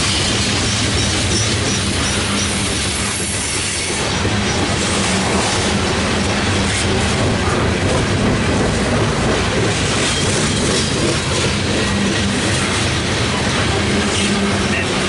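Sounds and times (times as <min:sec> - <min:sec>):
freight train wheels rumbling and rattling: 0:00.0 - 0:15.0.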